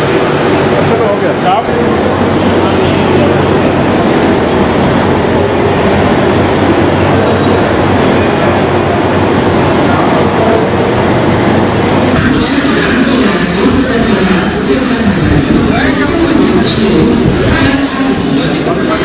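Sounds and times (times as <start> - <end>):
laundry machinery humming: 0.0 - 19.0.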